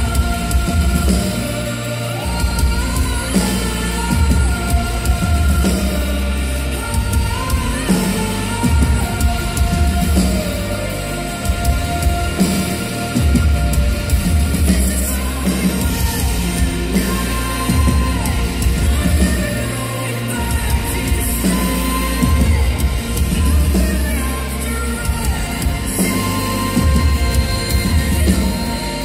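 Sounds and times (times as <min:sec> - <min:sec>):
live band playing: 0:00.0 - 0:29.0
woman singing: 0:00.0 - 0:29.0.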